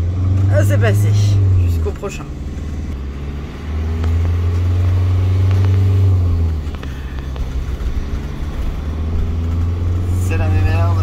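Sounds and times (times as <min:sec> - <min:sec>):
van engine droning: 0:00.0 - 0:11.0.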